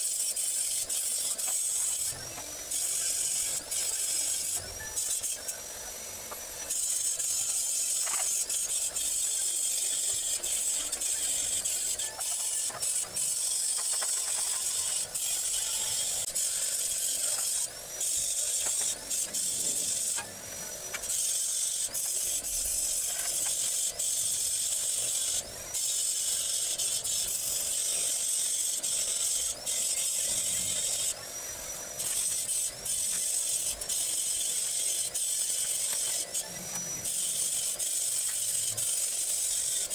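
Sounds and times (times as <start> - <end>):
crackling hiss of welding arc: 0.0 - 39.9.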